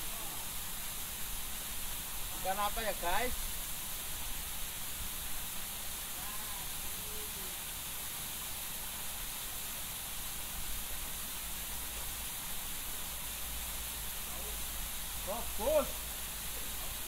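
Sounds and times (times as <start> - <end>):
waterfall rushing hiss: 0.0 - 17.0.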